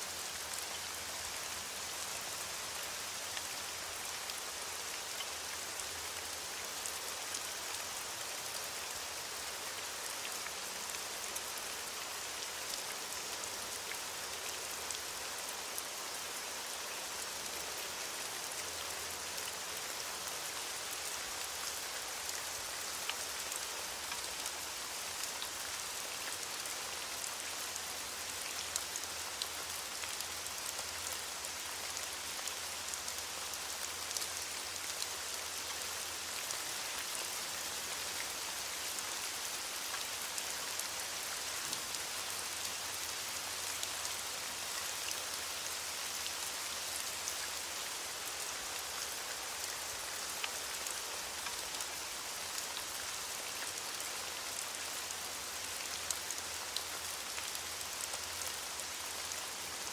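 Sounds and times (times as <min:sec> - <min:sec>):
rain pattering on a surface: 0:00.1 - 0:59.9.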